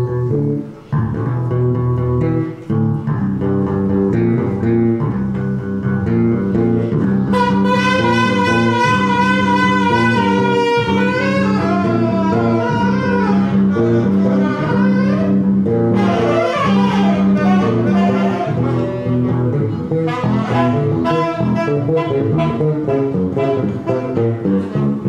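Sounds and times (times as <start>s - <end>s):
plucked electric bass: 0.0s - 25.0s
saxophone: 0.0s - 25.0s.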